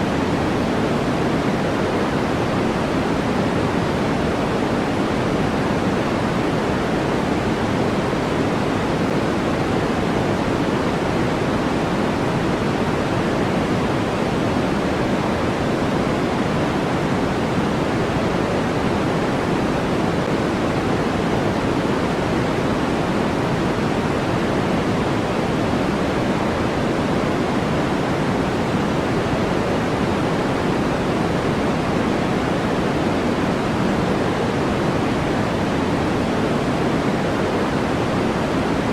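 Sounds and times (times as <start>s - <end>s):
deep white noise: 0.0s - 38.9s.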